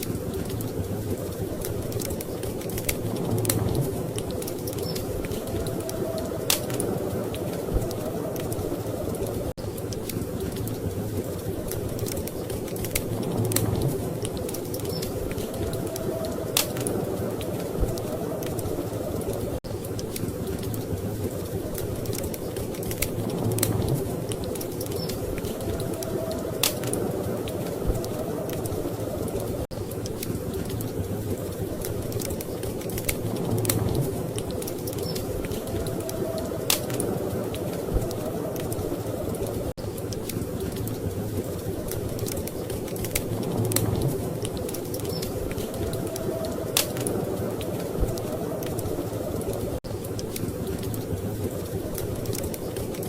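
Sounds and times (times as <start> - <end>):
storm wind rushing: 0.0 - 49.9
sharp pops and snaps: 0.0 - 53.0
wood fire crackling: 0.0 - 53.0.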